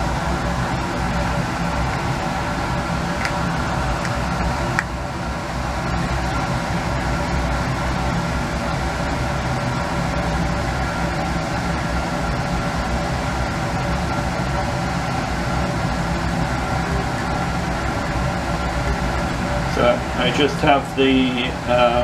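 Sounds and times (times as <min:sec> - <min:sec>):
faint whine: 0:00.0 - 0:22.0
ventilation fan hum: 0:00.0 - 0:22.0.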